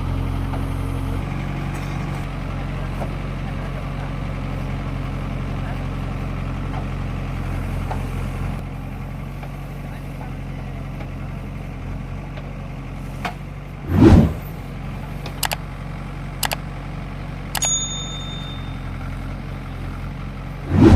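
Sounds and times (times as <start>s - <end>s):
diesel engine running at low revs: 0.0s - 20.9s.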